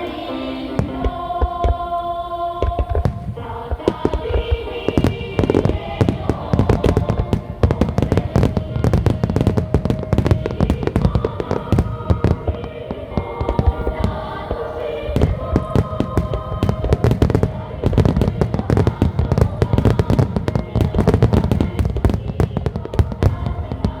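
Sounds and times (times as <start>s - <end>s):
fireworks bursts and crackles: 0.0s - 24.0s
music with singing: 0.0s - 24.0s.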